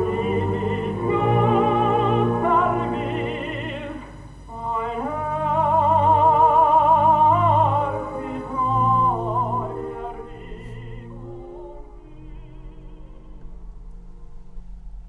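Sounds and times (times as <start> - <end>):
operatic singing: 0.0 - 13.9
orchestra playing: 0.0 - 14.2.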